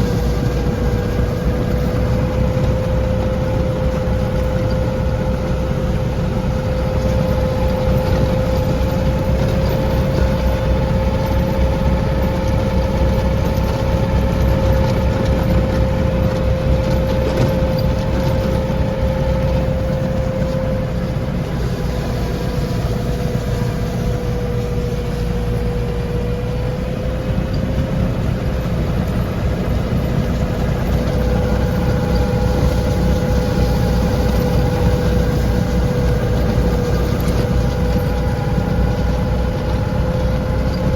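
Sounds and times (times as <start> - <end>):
snowblower whine: 0.0 - 40.9
tractor engine rumble: 0.0 - 40.9.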